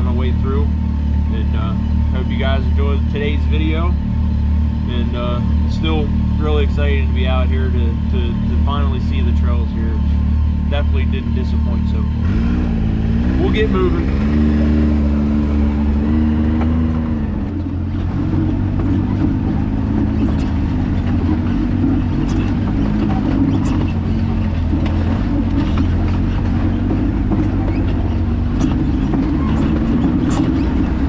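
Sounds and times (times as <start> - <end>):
engine running while driving: 0.0 - 31.0.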